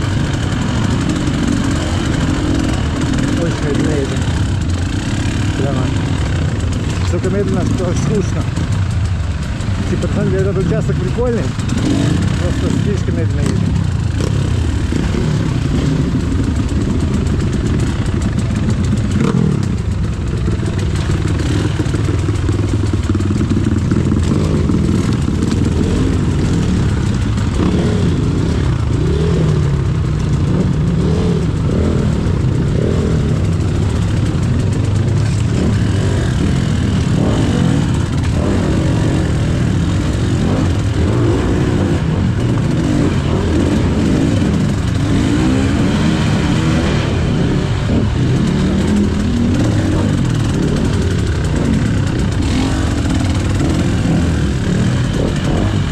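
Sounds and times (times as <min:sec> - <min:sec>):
two-stroke motorbike engine revving: 0:00.0 - 0:55.9.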